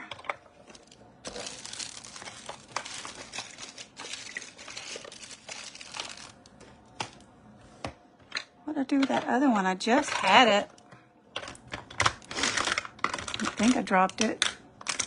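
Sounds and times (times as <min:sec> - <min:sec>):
crinkling and rustling: 0:00.0 - 0:09.3, 0:09.9 - 0:15.0.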